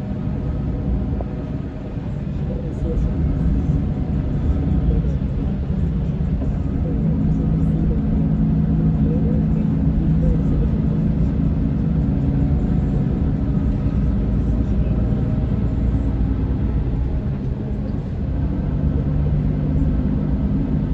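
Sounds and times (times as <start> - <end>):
diesel engine rumbling: 0.0 - 20.9.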